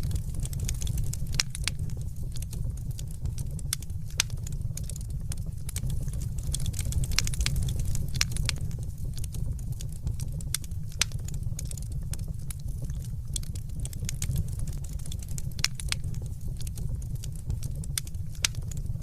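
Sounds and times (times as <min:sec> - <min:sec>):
low rumble of burning: 0:00.0 - 0:19.0
wood fire crackling: 0:00.0 - 0:19.0.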